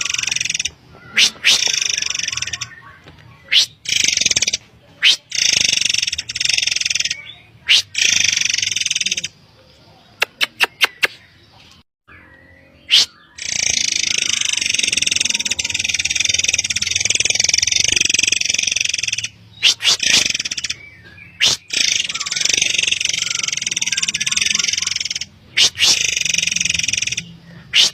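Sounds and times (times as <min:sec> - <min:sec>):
shrill high-pitched birdsong: 0:00.0 - 0:27.9.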